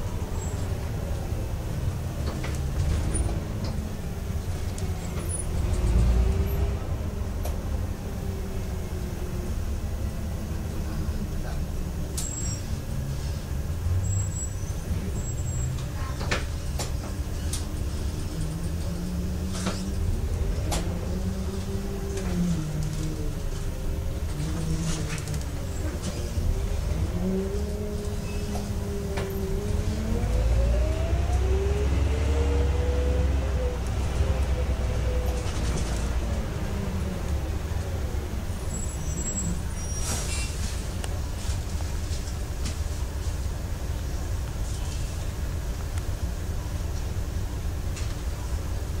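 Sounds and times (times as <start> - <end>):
bus diesel engine rumbling: 0.0 - 49.0.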